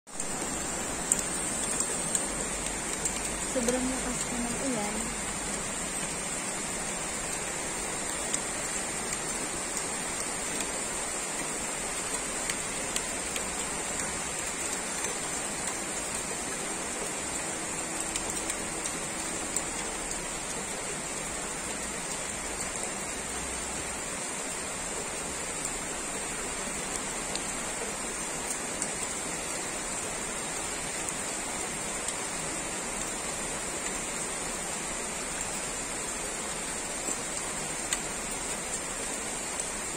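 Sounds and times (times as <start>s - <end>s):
heavy rain pouring: 0.1s - 39.9s
raindrops ticking: 0.1s - 39.9s.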